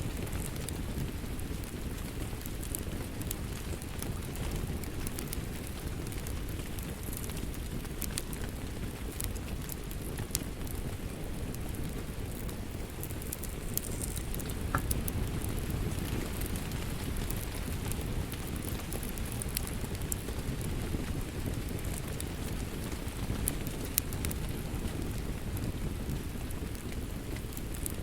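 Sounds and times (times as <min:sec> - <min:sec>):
low rumble of flames: 0:00.0 - 0:28.0
fire pops and snaps: 0:00.1 - 0:28.0.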